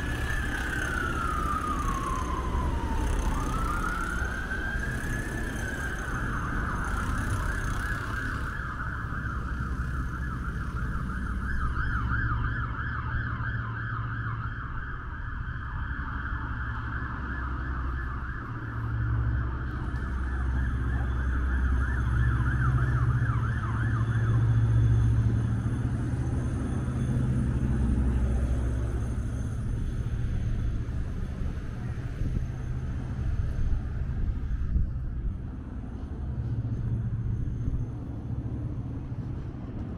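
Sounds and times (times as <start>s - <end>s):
emergency siren wailing: 0.0s - 39.9s
road traffic rumble: 0.0s - 39.9s.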